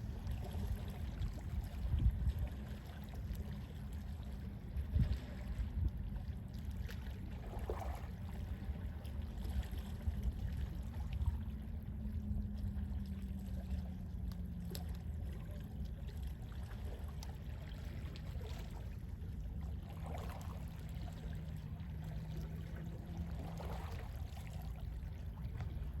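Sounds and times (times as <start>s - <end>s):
low rumble of sea wind: 0.0s - 26.0s
sea waves lapping softly: 0.0s - 26.0s.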